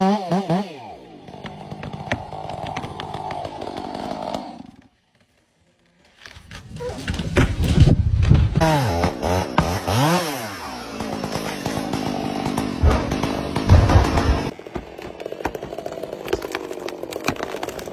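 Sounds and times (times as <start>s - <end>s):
chainsaw cutting wood: 0.0s - 5.3s, 6.4s - 17.9s.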